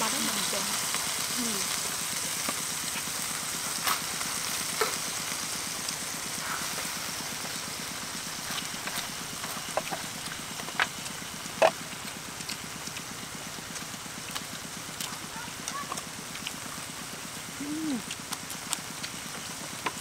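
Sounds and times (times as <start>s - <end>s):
beef sizzling in a wok: 0.0s - 20.0s.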